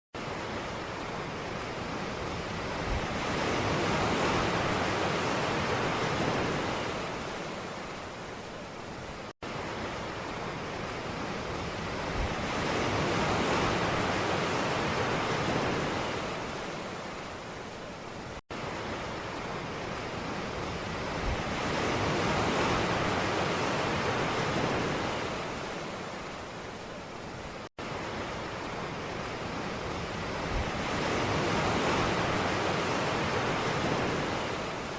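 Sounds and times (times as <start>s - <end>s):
ocean waves washing in: 0.2s - 34.9s.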